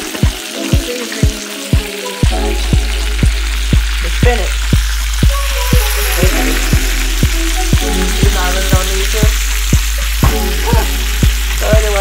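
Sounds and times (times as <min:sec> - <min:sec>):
background music with a beat: 0:00.0 - 0:12.0
food sizzling in a frying pan: 0:00.0 - 0:12.0.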